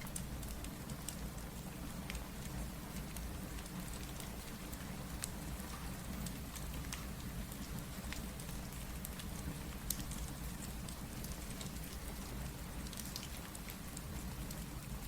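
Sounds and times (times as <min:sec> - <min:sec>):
steady rain with low rumble: 0:00.0 - 0:15.0.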